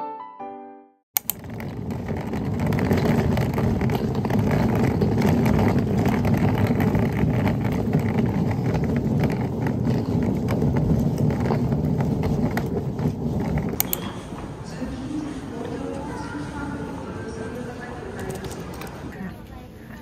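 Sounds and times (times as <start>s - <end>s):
suitcase wheels rolling on pavement: 1.2s - 19.4s.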